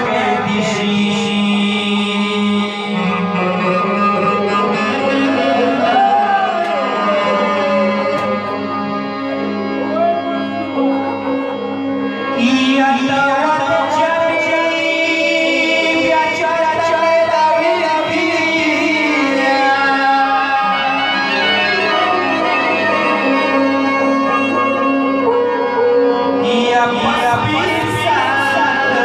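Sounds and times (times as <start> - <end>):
instrumental backing: 0.0 - 29.0
person singing slow melody: 0.0 - 29.0.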